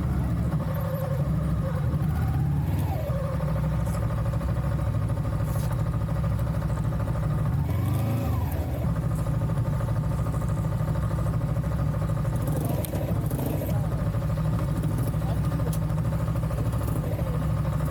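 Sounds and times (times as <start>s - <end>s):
vehicle engine running: 0.0s - 17.9s.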